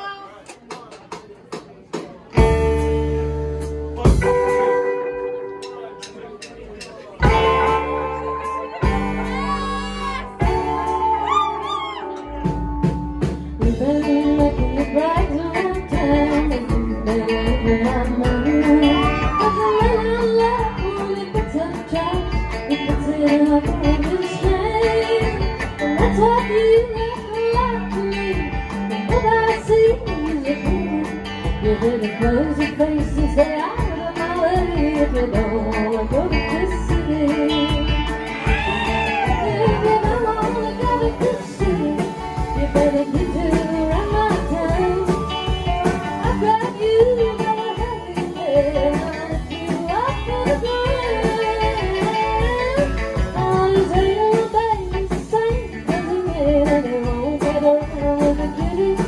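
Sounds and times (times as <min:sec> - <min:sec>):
country band playing: 0:00.0 - 0:59.0
woman singing: 0:07.3 - 0:12.6, 0:13.2 - 0:59.0.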